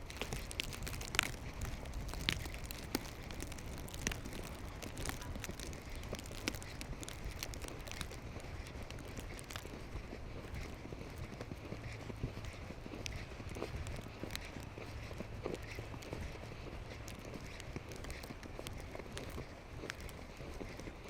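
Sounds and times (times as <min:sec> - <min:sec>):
footsteps crunching on snow: 0:00.0 - 0:21.0
wind rumble on microphone: 0:00.0 - 0:21.0.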